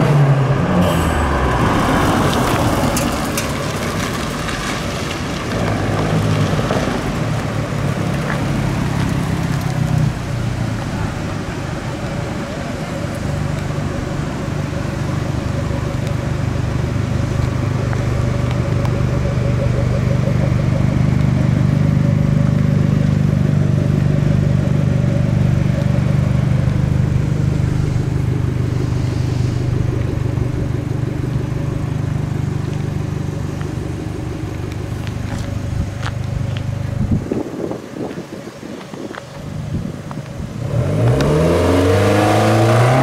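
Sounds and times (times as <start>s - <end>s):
car engine idling burble: 1.2s - 40.7s.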